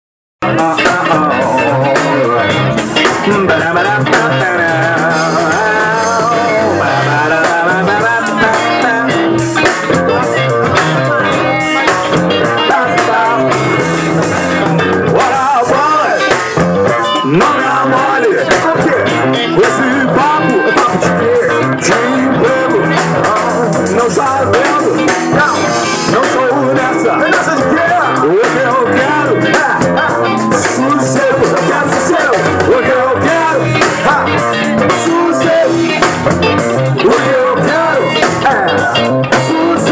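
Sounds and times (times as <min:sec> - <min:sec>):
drums: 0:00.4 - 0:39.9
electric guitar: 0:00.4 - 0:39.9
person singing: 0:00.4 - 0:39.9.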